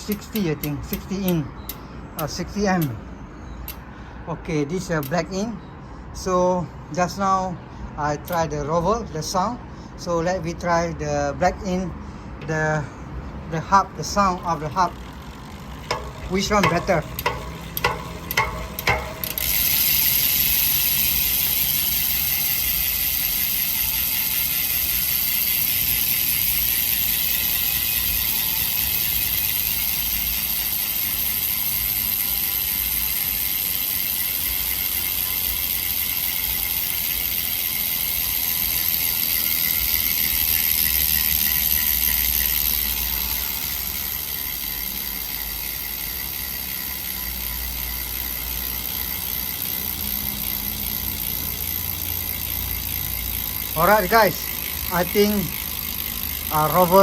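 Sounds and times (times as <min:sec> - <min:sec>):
bicycle hub ratchet ticking: 0:00.0 - 0:57.0.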